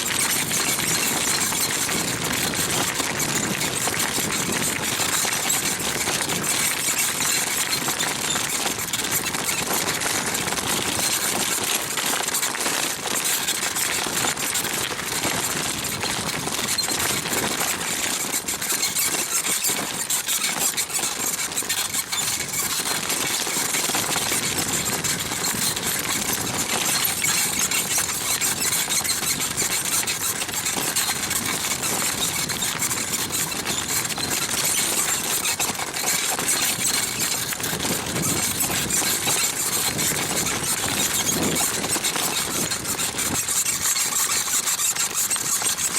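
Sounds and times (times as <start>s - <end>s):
bicycle saddle squeaking: 0.0s - 12.5s, 15.4s - 45.9s.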